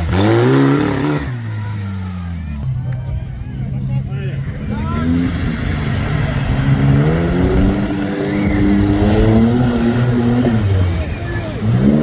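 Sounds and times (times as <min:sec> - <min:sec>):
heavy vehicle engine revving: 0:00.0 - 0:12.0.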